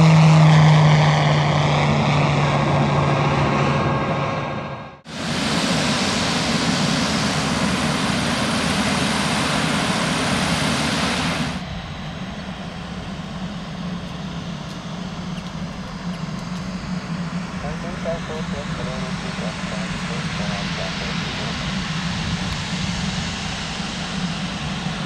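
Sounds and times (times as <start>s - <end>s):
turboprop aircraft engine running: 0.0s - 25.0s.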